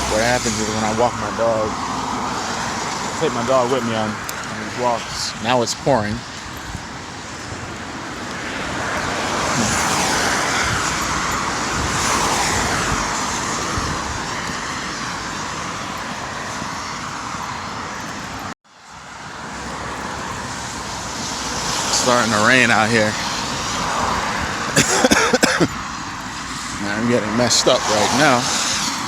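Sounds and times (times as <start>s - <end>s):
heavy rain pouring: 0.0s - 18.6s, 19.5s - 29.0s.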